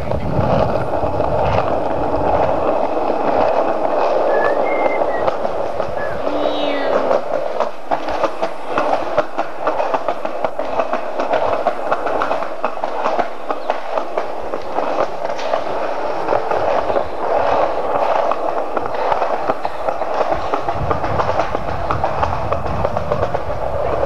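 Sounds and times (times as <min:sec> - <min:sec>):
skateboard wheels clacking over joints: 0:00.0 - 0:24.0
skateboard wheels rolling on concrete: 0:00.0 - 0:24.0.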